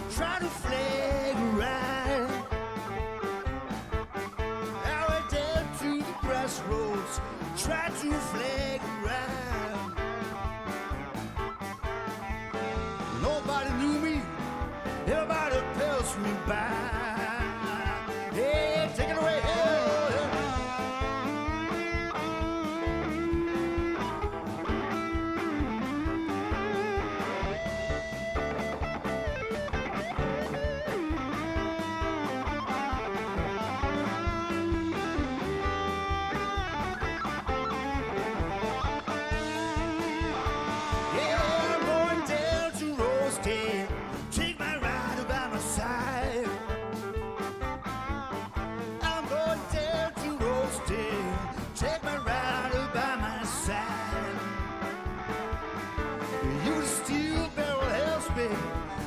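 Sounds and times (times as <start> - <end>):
lead guitar solo: 0.0 - 7.6, 8.8 - 15.2, 16.8 - 42.8, 46.4 - 49.7, 53.9 - 59.0
bass: 0.0 - 59.0
steady drum beat: 0.0 - 59.0.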